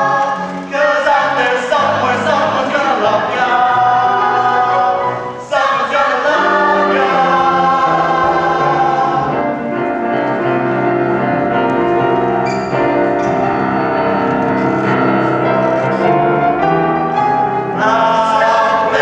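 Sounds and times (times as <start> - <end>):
piano playing sustained chords: 0.0 - 19.0.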